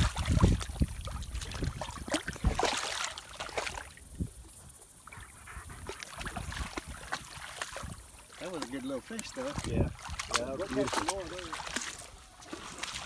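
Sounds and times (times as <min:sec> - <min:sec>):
dog splashing in water: 0:00.0 - 0:04.0, 0:05.1 - 0:13.0
water lapping: 0:00.0 - 0:04.2, 0:04.9 - 0:13.0.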